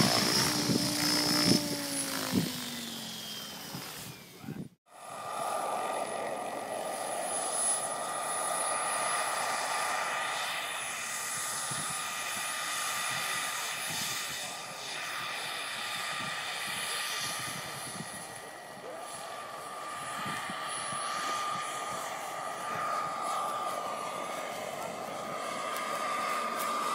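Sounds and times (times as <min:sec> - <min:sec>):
model helicopter whining: 0:00.0 - 0:26.9.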